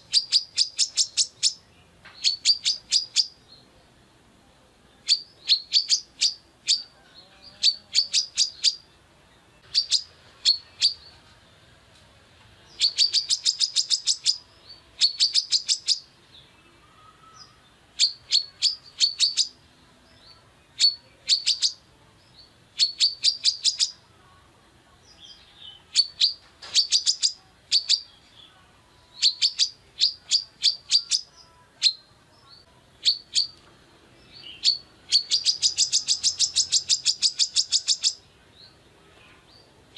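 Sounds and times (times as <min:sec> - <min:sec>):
sunbird chirping: 0:00.0 - 0:03.9, 0:04.9 - 0:11.3, 0:12.6 - 0:39.8.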